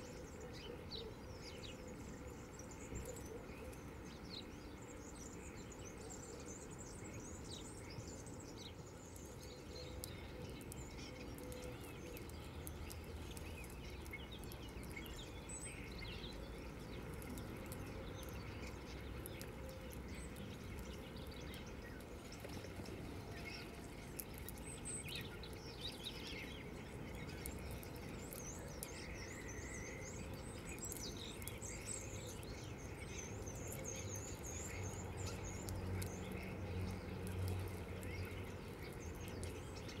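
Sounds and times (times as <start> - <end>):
low background noise: 0.0 - 40.0
songbirds chirping: 0.0 - 40.0.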